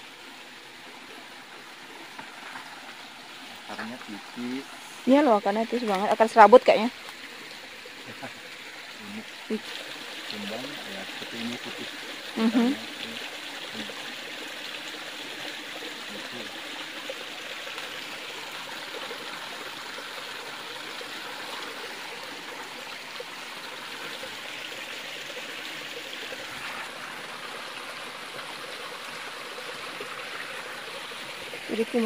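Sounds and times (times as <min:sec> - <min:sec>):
stream water flowing over rocks: 0:00.0 - 0:32.0.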